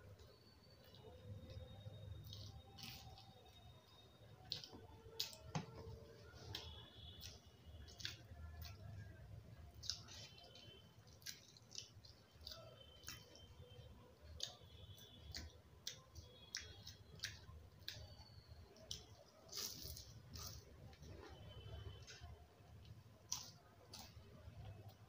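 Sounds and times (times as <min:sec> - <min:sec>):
mouth clicks and smacks chewing: 0:00.2 - 0:25.0
fingers breaking fried pastry: 0:00.3 - 0:21.4, 0:22.0 - 0:25.0.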